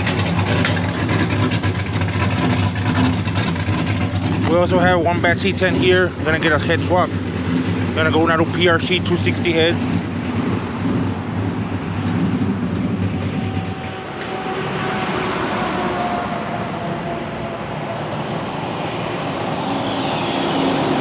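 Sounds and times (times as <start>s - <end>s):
low engine hum: 0.0s - 21.0s
passing vehicles: 0.0s - 21.0s.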